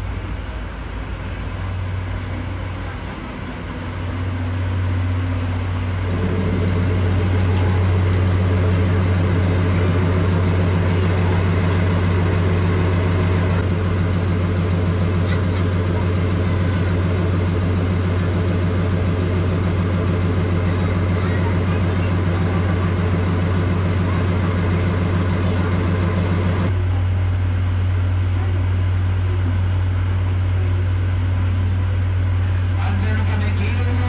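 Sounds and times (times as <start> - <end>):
diesel locomotive idling: 0.0 - 34.0
higher engine hum: 0.0 - 34.0.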